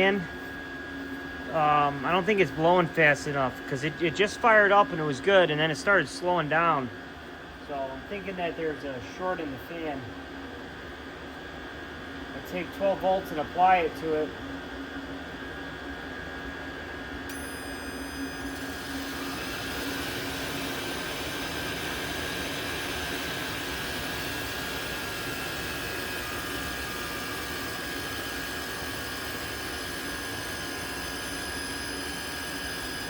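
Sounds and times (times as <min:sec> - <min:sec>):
blower fan whining: 0:00.0 - 0:33.0.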